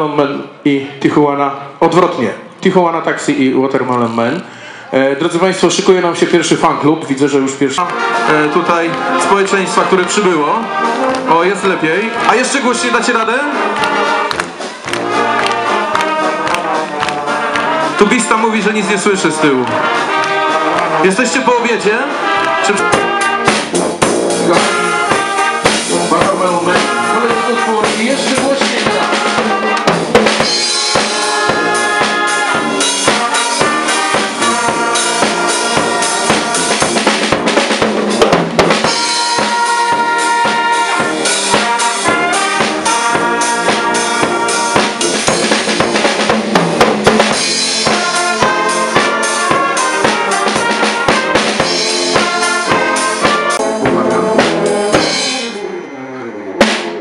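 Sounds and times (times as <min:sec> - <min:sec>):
brass bands playing: 0:01.2 - 0:57.0
drum kit beat: 0:05.7 - 0:55.6, 0:56.6 - 0:57.0.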